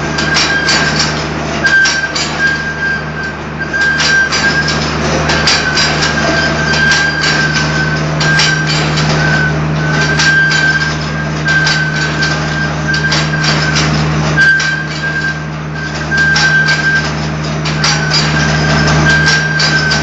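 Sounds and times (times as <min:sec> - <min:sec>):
high whine: 0:00.0 - 0:20.0
machine motor hum: 0:00.0 - 0:20.0
metallic clicking and clattering: 0:00.1 - 0:20.0.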